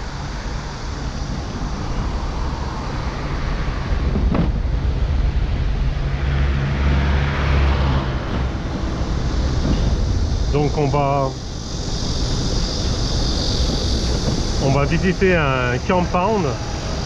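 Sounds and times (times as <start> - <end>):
scooter road noise: 0.0 - 17.0
wind buffeting microphone: 0.0 - 17.0.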